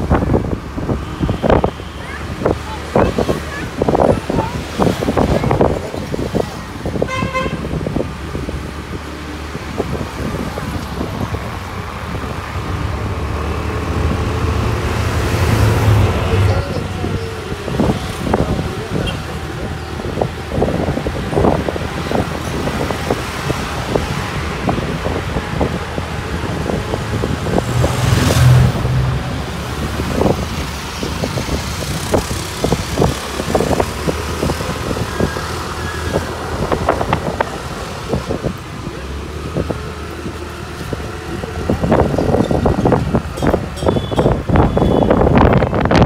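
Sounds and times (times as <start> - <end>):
street traffic engine noise: 0.0 - 46.0
wind buffeting microphone: 0.0 - 46.0.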